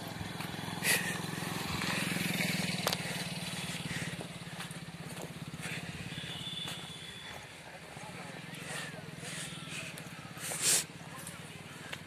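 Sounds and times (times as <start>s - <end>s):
motorcycle passing by: 0.0s - 12.0s.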